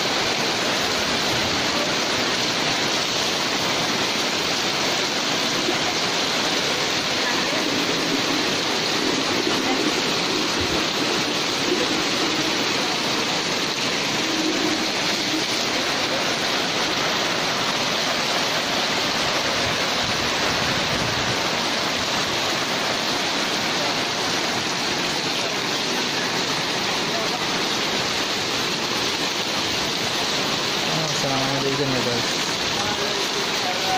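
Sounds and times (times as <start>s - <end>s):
heavy rain on tarpaulin: 0.0s - 33.9s
water pouring off edges: 0.0s - 33.9s.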